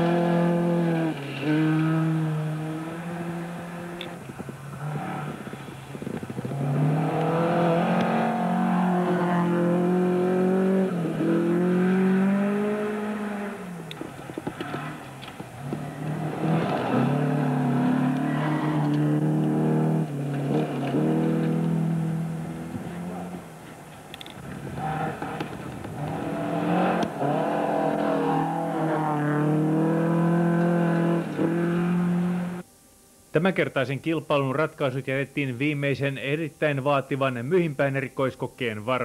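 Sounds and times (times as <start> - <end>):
rally car engines revving: 0.0 - 32.6.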